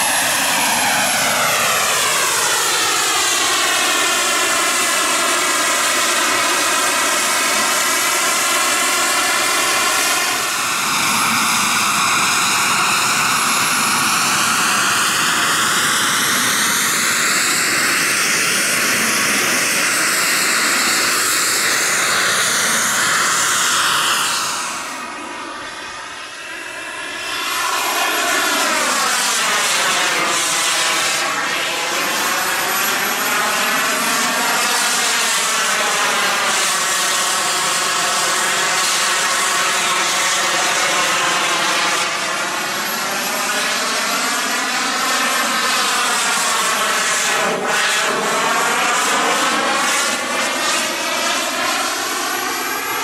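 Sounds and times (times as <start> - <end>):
model jet turbine whine: 0.0 - 53.0.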